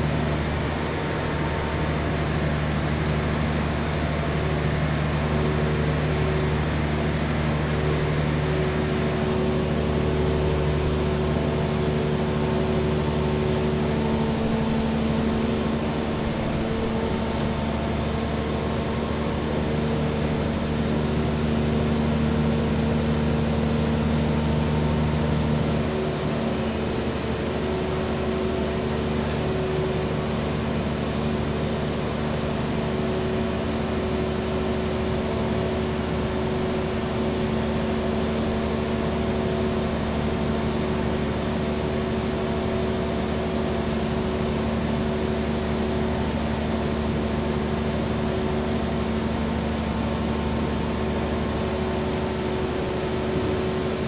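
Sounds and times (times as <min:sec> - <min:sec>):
concrete pump engine and hydraulic hum: 0:00.0 - 0:54.0.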